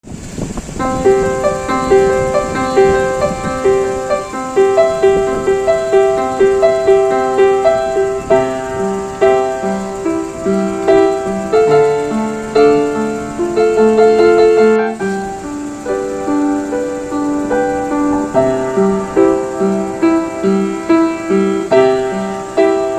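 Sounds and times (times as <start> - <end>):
background piano music: 0.6 - 22.9.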